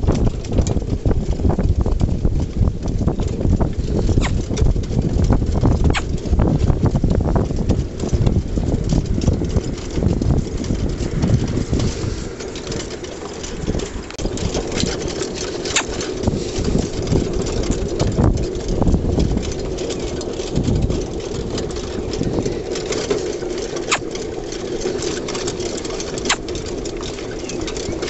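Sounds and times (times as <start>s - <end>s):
cart and harness rattling: 0.0s - 28.0s
low rumble of wheels: 0.0s - 28.0s
pony hoofbeats: 0.0s - 28.0s.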